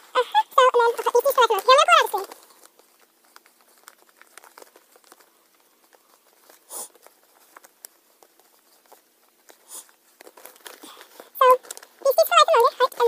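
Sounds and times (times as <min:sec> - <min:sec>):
wrapping paper crinkling: 0:00.4 - 0:13.0.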